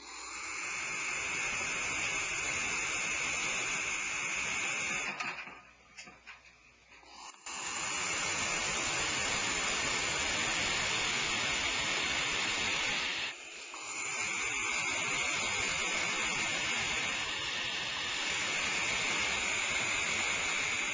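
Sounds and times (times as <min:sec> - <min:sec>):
barn owls hissing calls: 0:00.0 - 0:05.2, 0:07.0 - 0:20.9.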